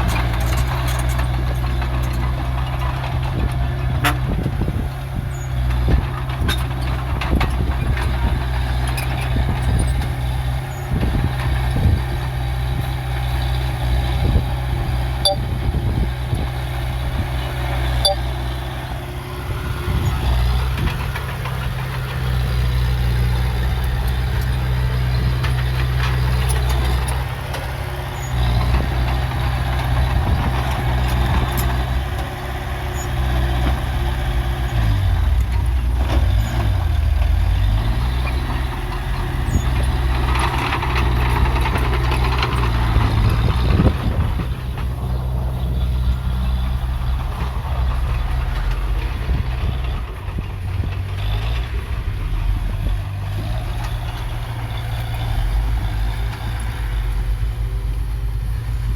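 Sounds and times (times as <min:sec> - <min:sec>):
diesel engine droning under load: 0:00.0 - 0:58.9.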